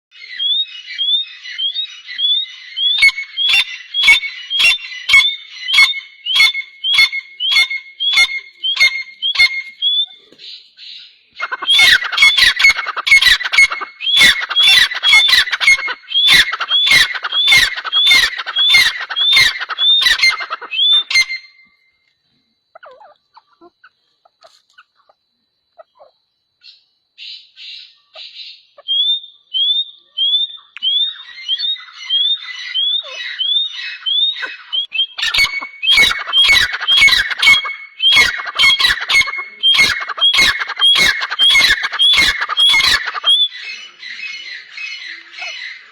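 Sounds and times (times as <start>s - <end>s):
birds calling in sharp high notes: 0.1s - 22.1s, 24.4s - 45.9s.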